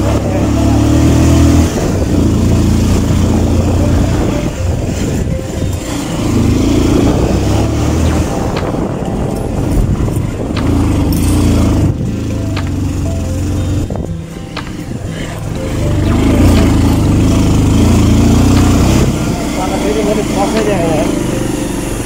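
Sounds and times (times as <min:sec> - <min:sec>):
motorcycle engine revving: 0:00.0 - 0:22.0
rush of noise: 0:00.0 - 0:22.0.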